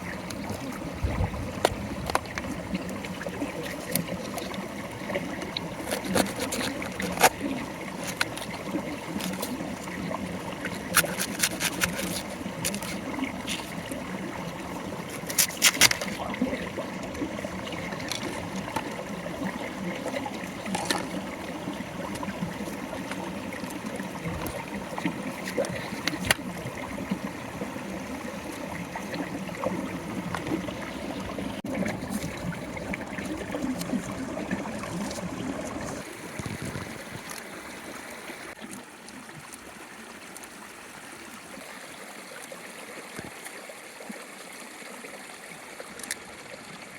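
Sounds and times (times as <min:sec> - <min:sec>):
running water stream: 0:00.0 - 0:46.9.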